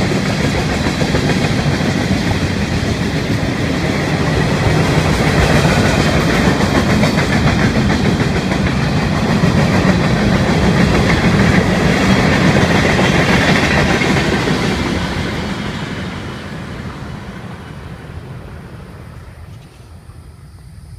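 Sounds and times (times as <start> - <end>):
freight train wheels clattering: 0.0 - 18.0
train rumble: 0.0 - 20.9.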